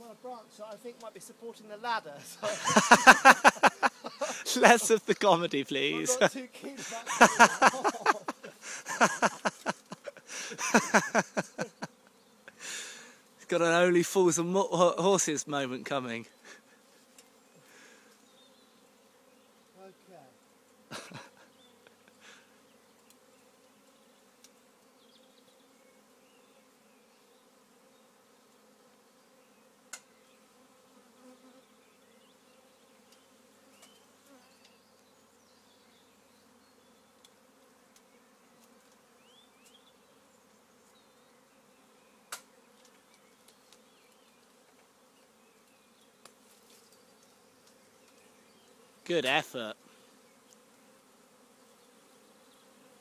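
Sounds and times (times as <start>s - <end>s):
bee swarm buzzing: 0.0s - 53.0s.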